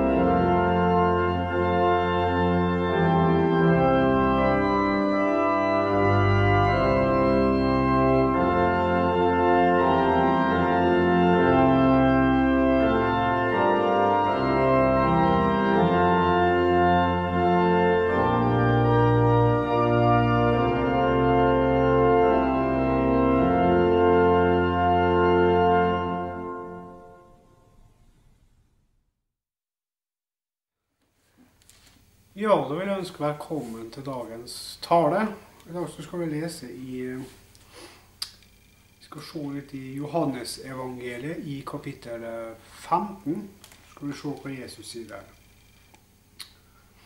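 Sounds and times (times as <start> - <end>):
organ playing slow chords: 0.0 - 28.8, 31.7 - 47.0.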